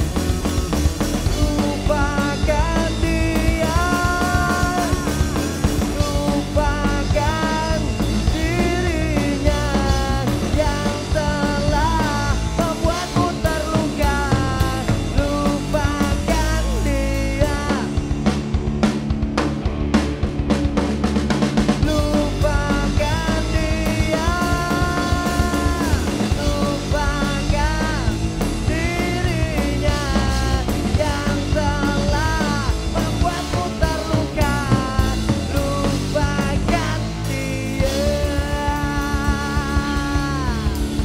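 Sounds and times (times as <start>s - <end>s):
man singing: 0.0s - 18.4s, 21.7s - 41.0s
punk rock band playing: 0.0s - 41.0s.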